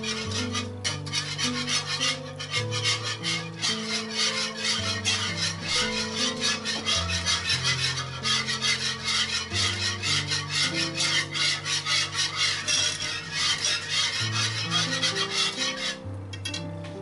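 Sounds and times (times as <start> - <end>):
background music: 0.0 - 17.0
whisk scraping frying pan: 0.0 - 17.0.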